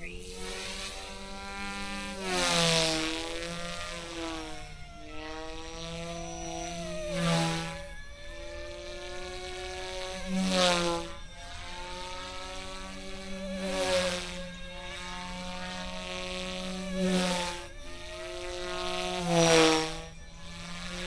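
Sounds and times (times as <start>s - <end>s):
rc helicopter rotor whining: 0.0s - 21.0s.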